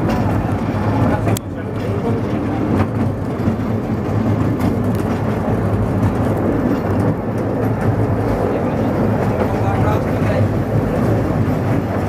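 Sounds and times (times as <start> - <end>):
small train rumbling on track: 0.0 - 12.0.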